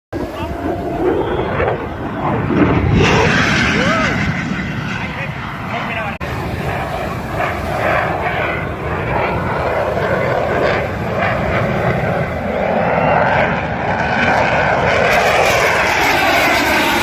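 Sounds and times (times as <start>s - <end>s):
airplane flying past: 0.2s - 17.0s.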